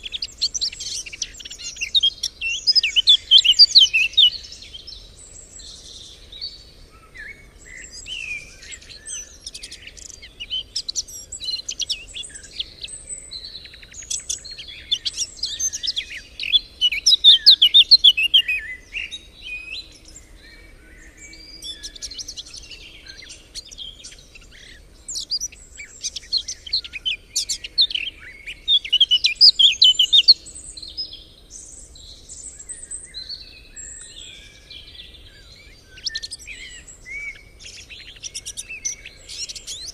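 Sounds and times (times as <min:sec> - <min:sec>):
loud rapid bird trills: 0:00.0 - 0:39.9
songbirds singing and chirping: 0:00.0 - 0:39.9.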